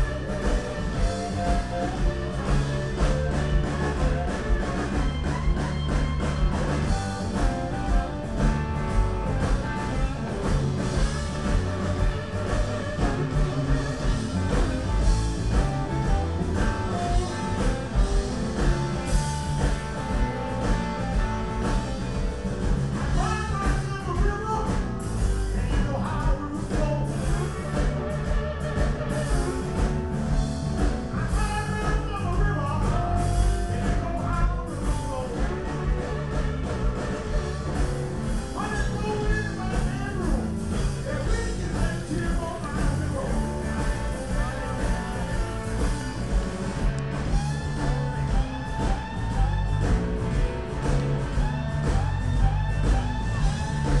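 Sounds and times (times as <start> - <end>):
blues-rock band playing: 0.0 - 54.0.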